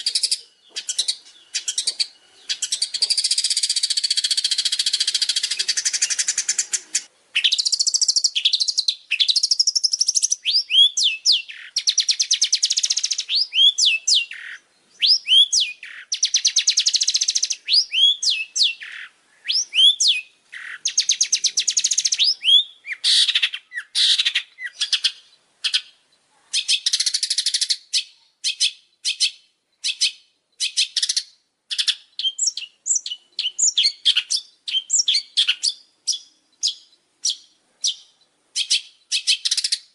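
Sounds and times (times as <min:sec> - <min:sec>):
songbird trilling and whistling: 0:00.0 - 0:25.9, 0:26.6 - 0:39.9.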